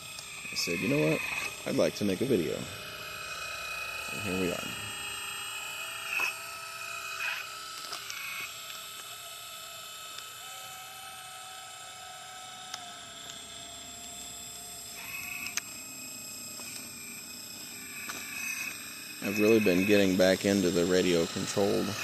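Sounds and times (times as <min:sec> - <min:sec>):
electric motor and pump whining: 0:00.0 - 0:22.0.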